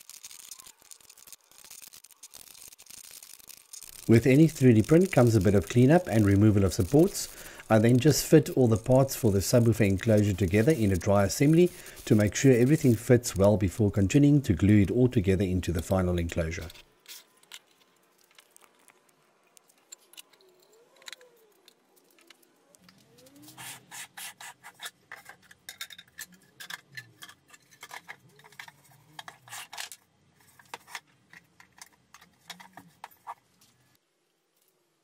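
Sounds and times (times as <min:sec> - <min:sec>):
plastic parts clicking and rubbing: 0:00.0 - 0:34.8.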